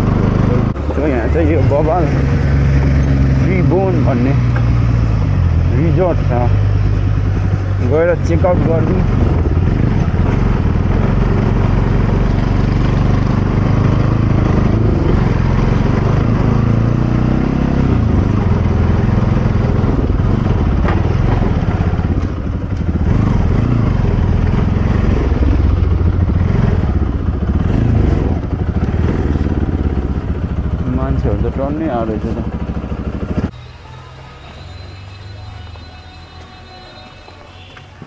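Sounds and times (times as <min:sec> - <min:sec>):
motorcycle engine running: 0:00.0 - 0:33.8.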